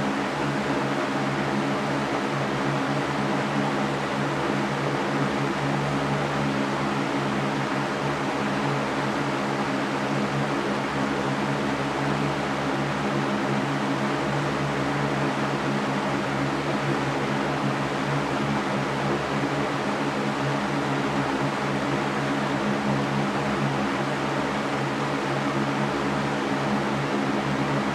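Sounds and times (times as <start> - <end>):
steady white noise hiss: 0.0 - 27.9.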